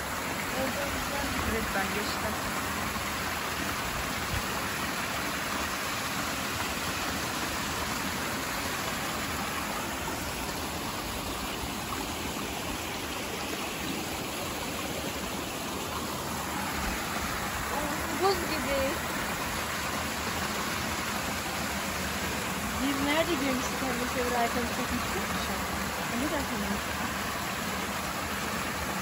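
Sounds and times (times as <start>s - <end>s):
small waterfall splashing into pool: 0.0s - 29.0s
stream rushing over rocks: 0.0s - 29.0s.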